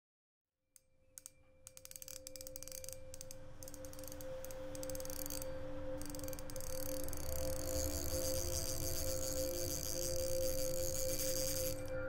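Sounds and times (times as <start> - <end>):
steady held tones: 2.1 - 12.0.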